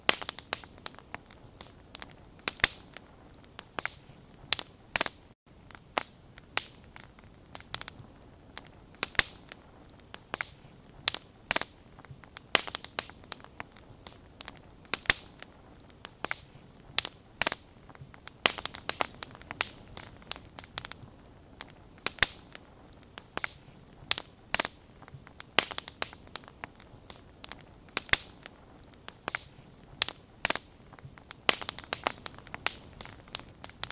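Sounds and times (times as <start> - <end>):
campfire crackling: 0.0 - 33.9
faint hiss of burning: 0.0 - 33.9.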